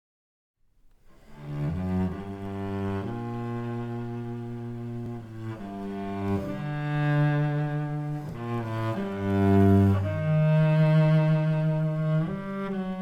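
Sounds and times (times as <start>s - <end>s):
cello playing long bowed notes: 1.1s - 13.0s.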